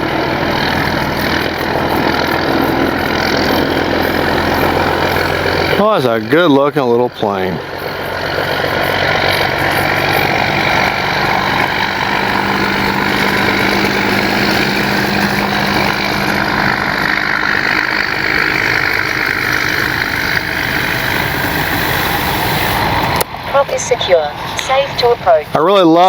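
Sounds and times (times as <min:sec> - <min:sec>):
model plane electric motor running: 0:00.0 - 0:23.2.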